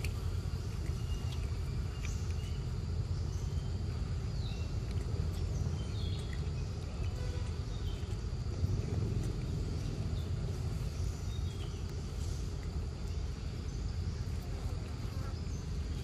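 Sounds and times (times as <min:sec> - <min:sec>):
low rumble: 0:00.0 - 0:14.4.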